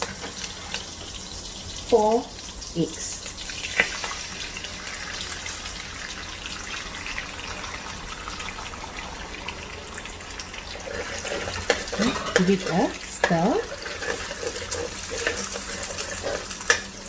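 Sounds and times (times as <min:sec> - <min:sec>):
eggs sizzling in a frying pan: 0:00.0 - 0:17.0.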